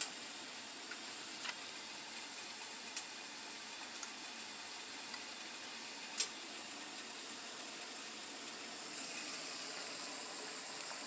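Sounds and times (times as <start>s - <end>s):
water boiling in a pot: 0.0s - 11.0s.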